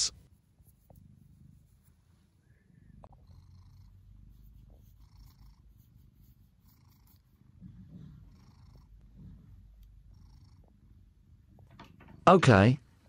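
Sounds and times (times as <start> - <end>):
cat purring: 0.3 - 12.1.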